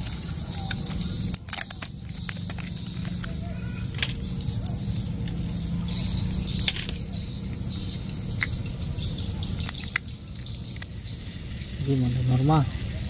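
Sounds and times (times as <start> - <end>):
low outdoor rumble: 0.0 - 13.0
faint high chirping: 0.1 - 13.0.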